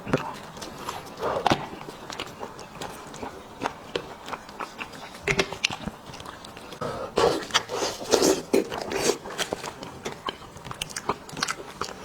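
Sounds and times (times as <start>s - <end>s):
person chewing meat: 0.0s - 12.0s.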